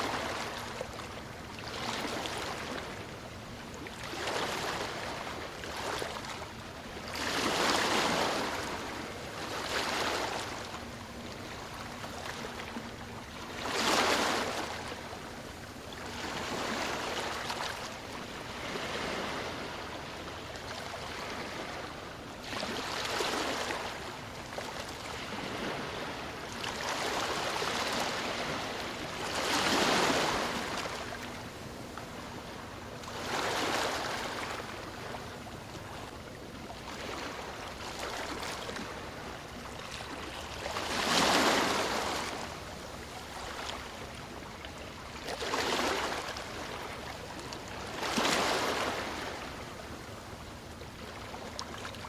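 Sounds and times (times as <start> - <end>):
ocean waves washing ashore: 0.0 - 52.0.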